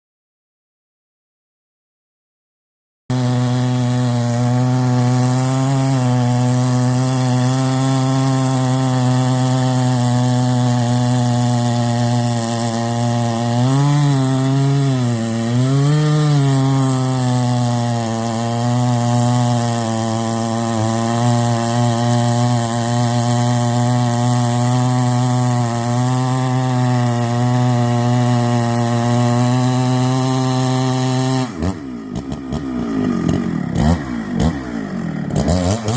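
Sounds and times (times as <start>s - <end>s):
chainsaw engine running: 3.1s - 35.9s.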